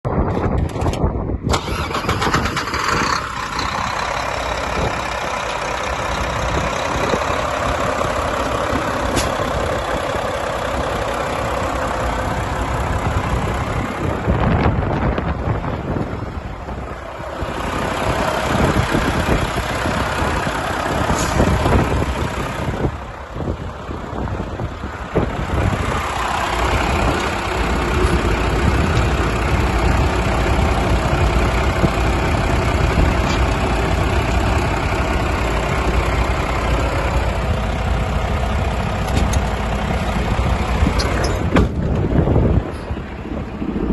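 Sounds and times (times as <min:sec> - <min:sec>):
truck engine starting and running: 0:00.0 - 0:43.9.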